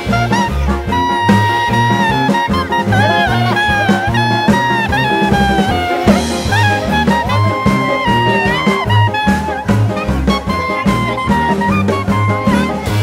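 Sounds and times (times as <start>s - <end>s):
instrumental background music: 0.0s - 13.0s.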